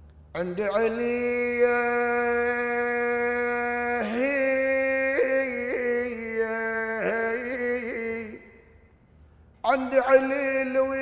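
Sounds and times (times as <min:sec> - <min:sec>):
man chanting unaccompanied: 0:00.4 - 0:08.7, 0:09.6 - 0:11.0.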